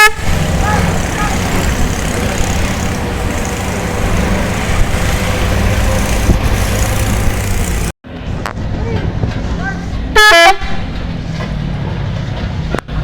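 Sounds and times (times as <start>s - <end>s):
bus engine running: 0.0s - 13.0s
road and traffic noise: 0.0s - 13.0s.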